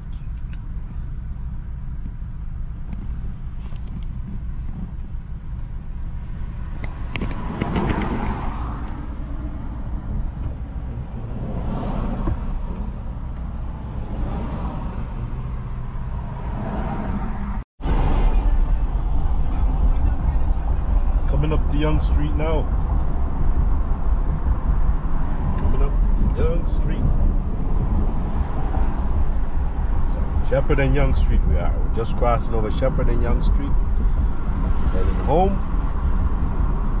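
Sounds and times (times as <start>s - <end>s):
car engine and road rumble: 0.0s - 37.0s
traffic noise: 0.0s - 37.0s.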